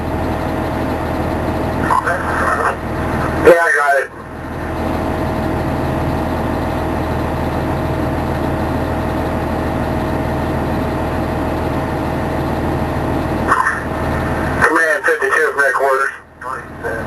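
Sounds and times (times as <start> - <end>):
fire engine motor humming: 0.0 - 17.0
thin steady whine: 0.0 - 17.0.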